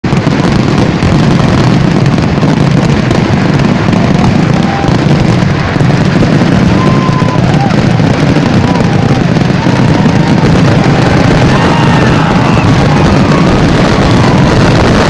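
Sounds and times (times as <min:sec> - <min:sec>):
firecrackers barrage: 0:00.0 - 0:15.0.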